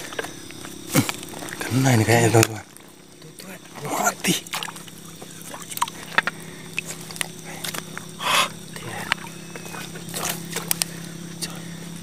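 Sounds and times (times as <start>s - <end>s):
water splashing: 0.0s - 11.2s
fish thrashing in water: 0.0s - 11.3s
steady low hum: 0.0s - 12.0s.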